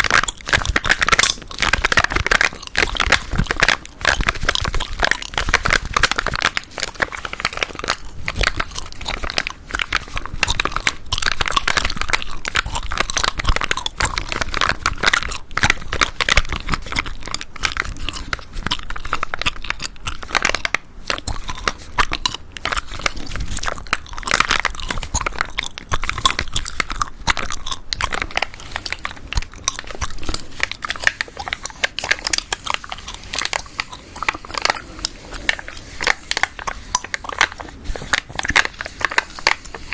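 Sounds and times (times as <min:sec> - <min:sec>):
gum chewing: 0:00.0 - 0:39.9.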